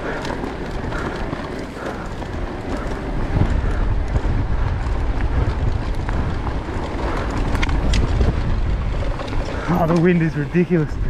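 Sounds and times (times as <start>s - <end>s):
bike rattling on trail: 0.0s - 11.0s
wind buffeting microphone: 0.0s - 11.0s.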